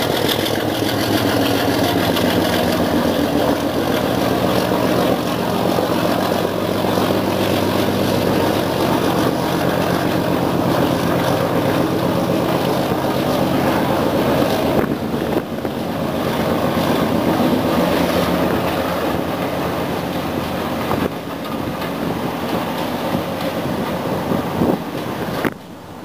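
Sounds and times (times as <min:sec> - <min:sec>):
diesel locomotive engine running: 0:00.0 - 0:26.0
rushing noise: 0:00.0 - 0:26.0.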